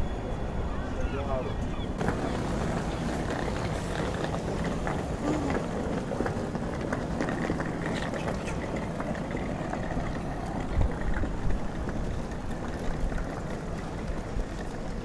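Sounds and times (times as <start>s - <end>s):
train rumbling and rushing: 0.0s - 15.0s.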